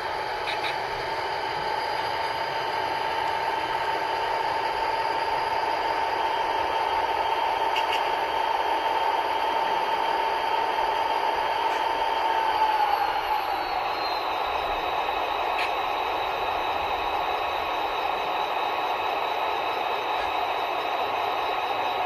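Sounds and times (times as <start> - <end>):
diesel engine sound from small speaker: 0.0 - 22.0
high steady whine: 0.0 - 22.0.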